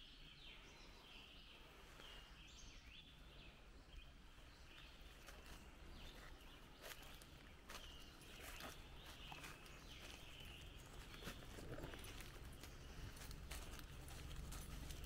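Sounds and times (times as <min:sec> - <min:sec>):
faint bird chirps: 0:00.0 - 0:13.8.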